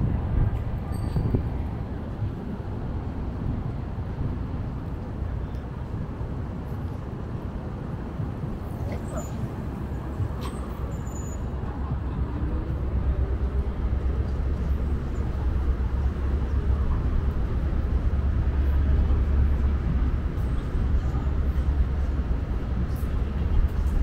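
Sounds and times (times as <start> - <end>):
city traffic rumble: 0.0 - 24.0.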